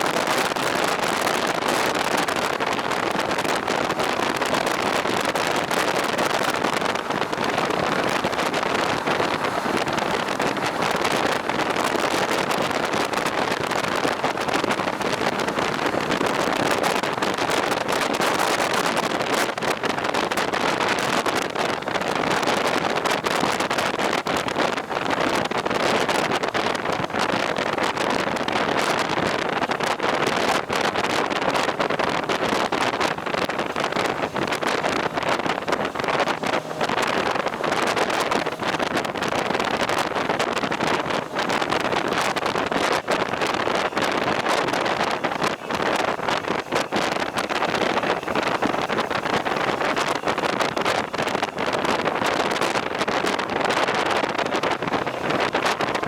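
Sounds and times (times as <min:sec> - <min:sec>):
motorcycle road and engine roar: 0:00.0 - 0:56.0
wind rushing over microphone: 0:00.0 - 0:56.0.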